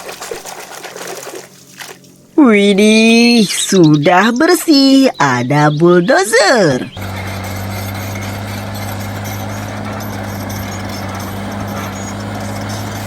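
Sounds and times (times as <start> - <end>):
motor running with hum: 0.0 - 13.0.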